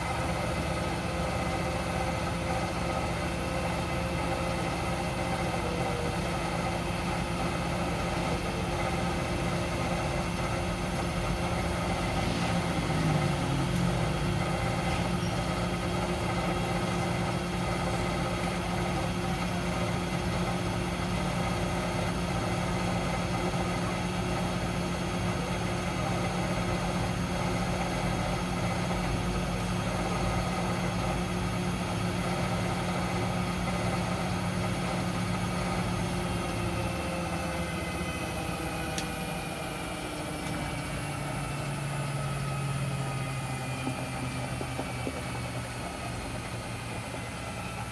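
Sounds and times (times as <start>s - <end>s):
washing machine humming: 0.0s - 47.9s.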